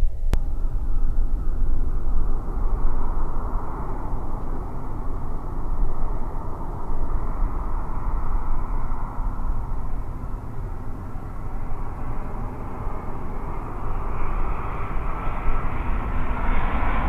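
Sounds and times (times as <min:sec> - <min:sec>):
jet airliner engines rumbling: 0:00.0 - 0:17.0.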